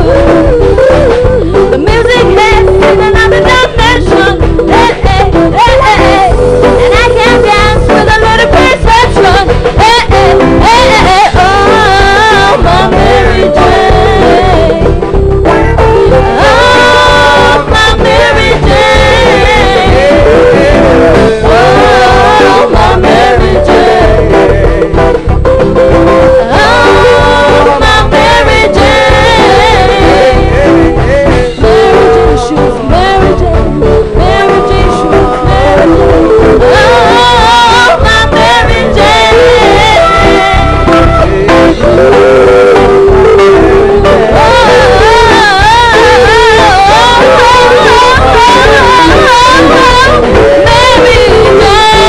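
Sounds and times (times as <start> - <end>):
reggae band playing: 0.0 - 52.0
voices singing: 0.0 - 52.0.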